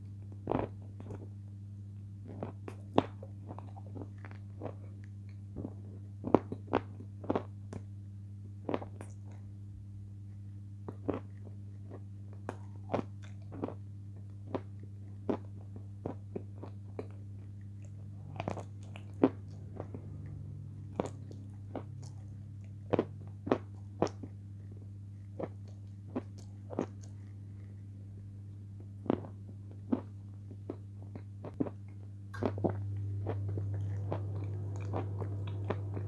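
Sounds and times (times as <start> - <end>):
steady low hum: 0.0 - 36.0
chewing potato chips: 2.2 - 7.9, 10.8 - 27.9, 29.0 - 36.0.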